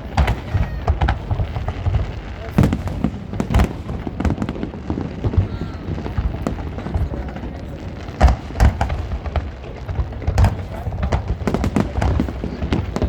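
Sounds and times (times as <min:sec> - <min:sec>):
fireworks booms and cracks: 0:00.0 - 0:13.0.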